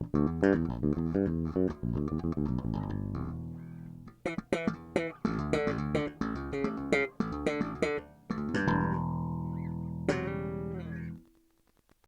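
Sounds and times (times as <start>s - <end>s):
electric bass plucked notes: 0.0s - 11.2s.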